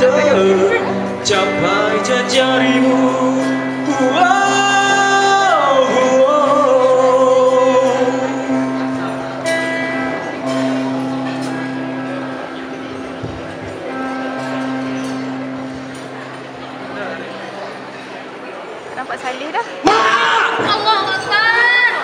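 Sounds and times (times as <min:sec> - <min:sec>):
live rock band playing: 0:00.0 - 0:19.2.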